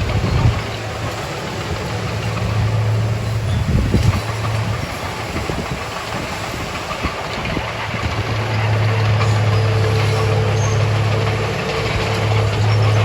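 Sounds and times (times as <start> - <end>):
bulldozer diesel engine humming: 0.0 - 13.0.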